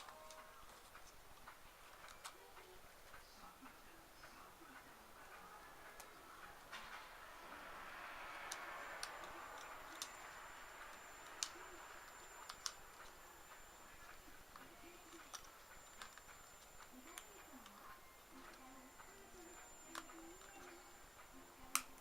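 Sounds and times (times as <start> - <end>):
thin high steady whine: 0.0 - 22.0.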